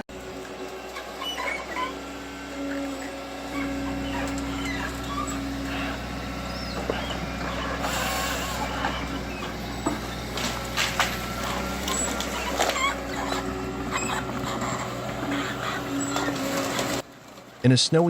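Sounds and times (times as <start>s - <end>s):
heavy machine engine humming: 0.0s - 18.0s.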